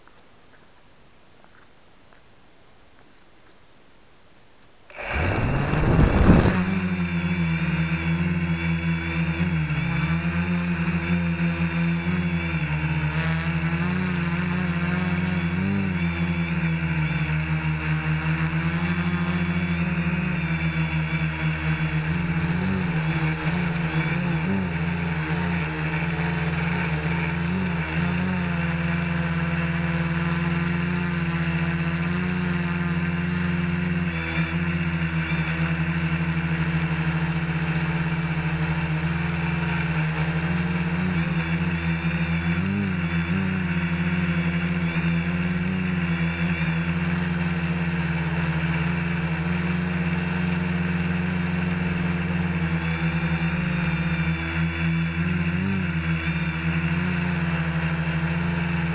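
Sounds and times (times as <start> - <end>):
quadcopter motors whining: 4.9 - 58.9.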